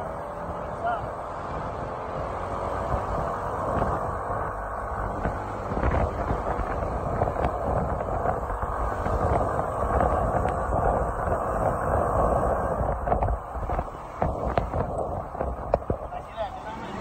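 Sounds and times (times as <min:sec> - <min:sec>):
road noise: 0:00.0 - 0:17.0
scooter engine: 0:00.0 - 0:17.0
wind buffeting microphone: 0:00.0 - 0:17.0.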